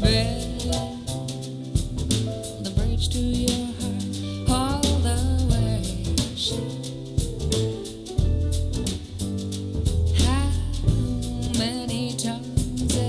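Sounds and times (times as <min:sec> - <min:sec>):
soul-jazz song with singing: 0:00.0 - 0:13.0.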